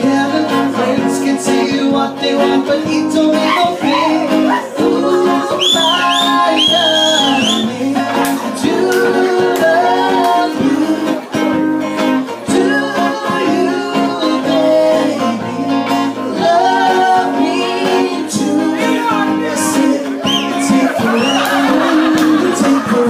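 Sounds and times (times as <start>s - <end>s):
person singing: 0.0s - 23.0s
strummed guitar: 0.0s - 23.0s.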